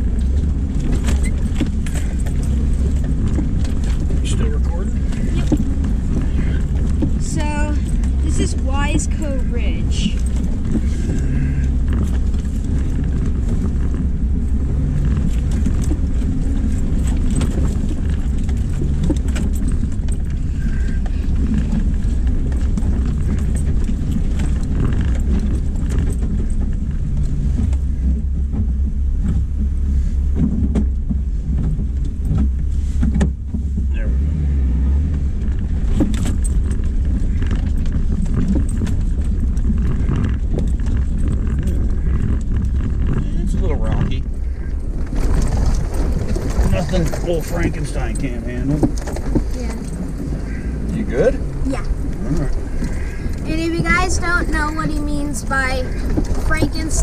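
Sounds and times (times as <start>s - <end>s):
engine rumbling in low gear: 0.0s - 57.0s
vehicle rattling over bumps: 0.0s - 57.0s.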